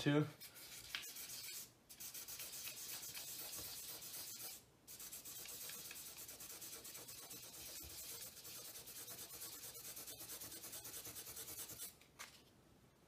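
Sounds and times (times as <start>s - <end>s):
sandpaper rubbing: 0.4s - 12.0s.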